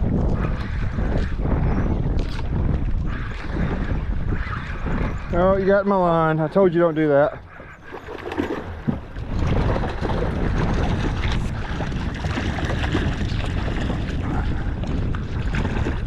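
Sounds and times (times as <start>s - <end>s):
wind buffeting the microphone: 0.0s - 16.0s
open water rushing: 2.2s - 16.0s.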